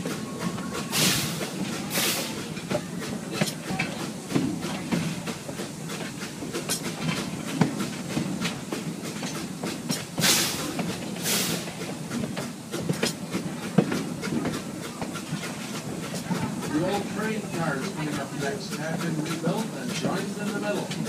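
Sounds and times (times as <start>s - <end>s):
steam hissing: 0.0s - 21.0s
train wheels clattering over rails: 0.0s - 21.0s.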